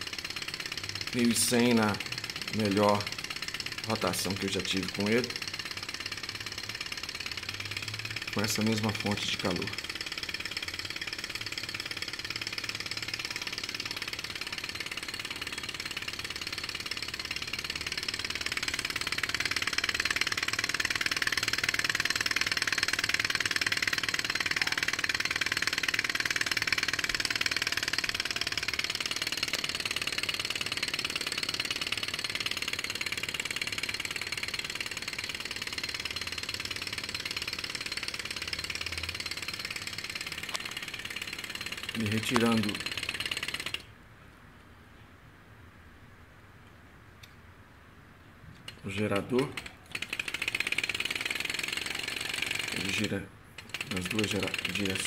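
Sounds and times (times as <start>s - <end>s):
stirling engine clattering: 0.0s - 43.8s, 48.7s - 55.0s.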